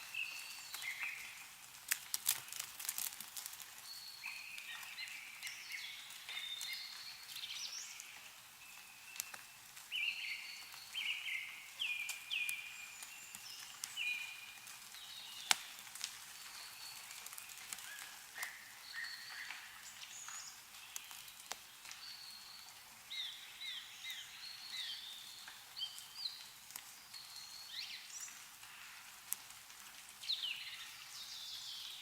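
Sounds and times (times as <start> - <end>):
meltwater dripping: 0.0 - 32.0
small birds chirping: 0.0 - 32.0.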